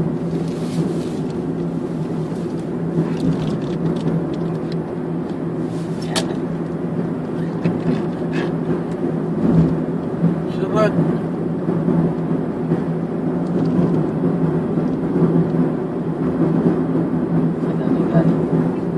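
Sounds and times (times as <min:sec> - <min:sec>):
vehicle engine and road noise: 0:00.0 - 0:18.9.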